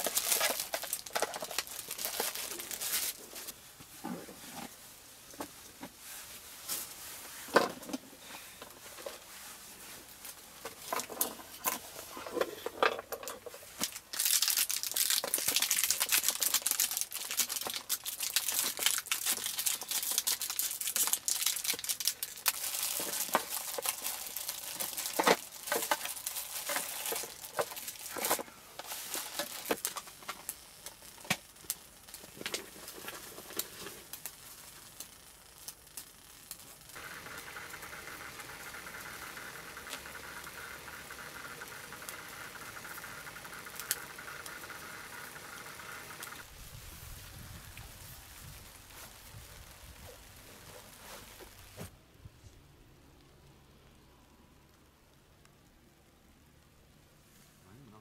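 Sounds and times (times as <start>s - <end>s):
crinkling and rustling: 0.0s - 52.0s.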